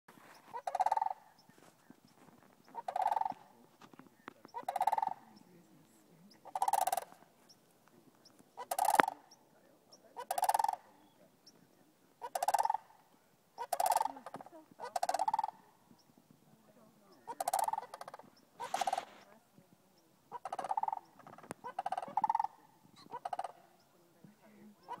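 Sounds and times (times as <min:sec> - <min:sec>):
cranes rolling trilled calls: 0:00.1 - 0:16.3, 0:17.0 - 0:25.0.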